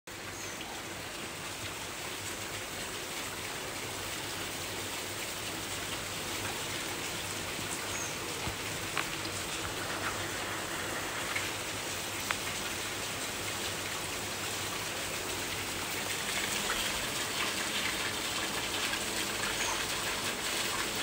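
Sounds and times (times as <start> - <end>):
rain falling on leaves: 0.1 - 21.0.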